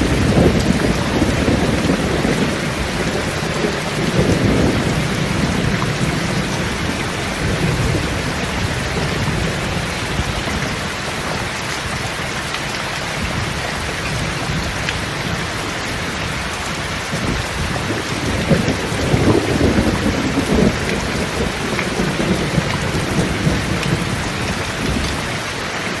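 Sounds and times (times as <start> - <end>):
thunder rumbling: 0.0 - 12.2, 13.2 - 25.6
rain on a metal roof: 0.0 - 26.0.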